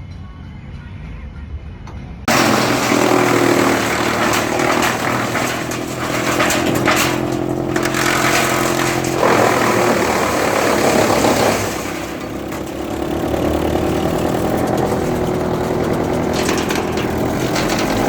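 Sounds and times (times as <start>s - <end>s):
short mechanical knocks: 2.3s - 18.0s
wood chipper running: 2.3s - 18.0s.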